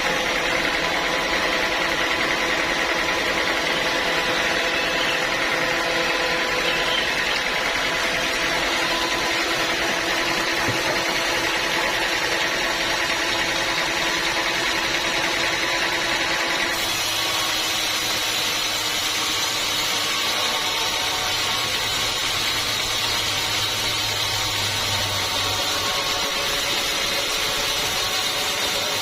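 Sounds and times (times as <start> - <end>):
sawmill machinery hum and whine: 0.0 - 29.0.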